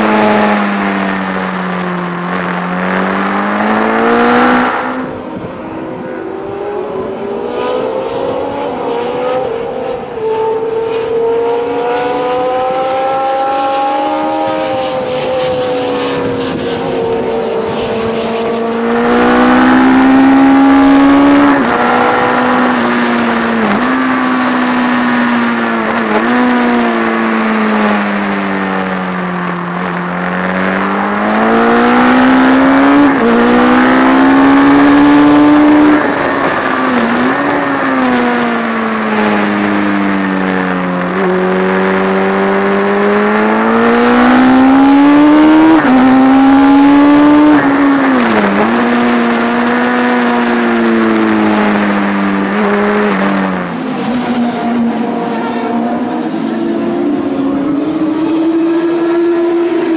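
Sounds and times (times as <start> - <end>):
racing motorcycle engine: 0.0 - 59.9.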